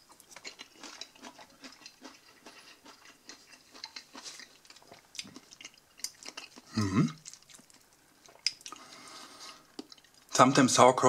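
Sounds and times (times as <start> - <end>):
person chewing wet crunchy food: 0.0 - 10.4.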